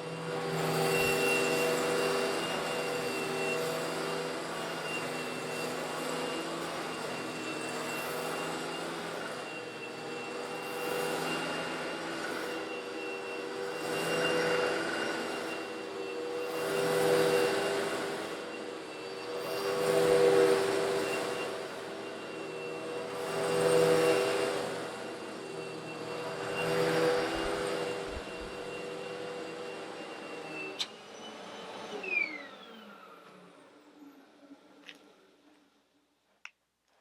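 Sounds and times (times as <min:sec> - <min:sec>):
vacuum cleaner running: 0:00.0 - 0:35.6.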